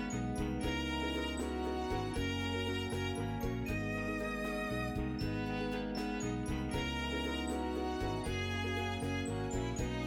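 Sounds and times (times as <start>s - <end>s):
acoustic instrumental music: 0.0s - 10.0s.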